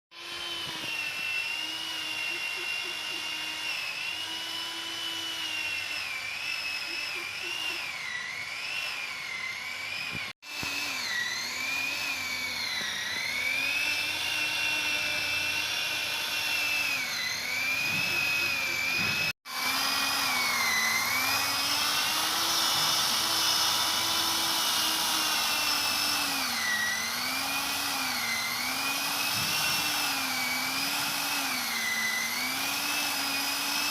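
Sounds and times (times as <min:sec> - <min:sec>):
small motor whining: 0:00.1 - 0:33.9.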